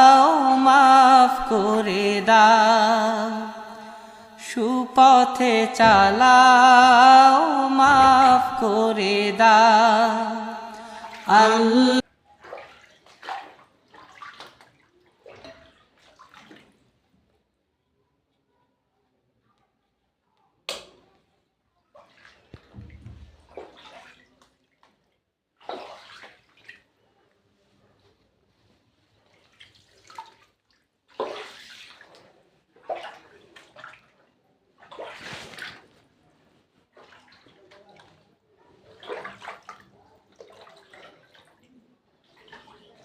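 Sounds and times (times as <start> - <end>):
water splashing and sloshing: 0.0 - 17.5, 21.8 - 43.0.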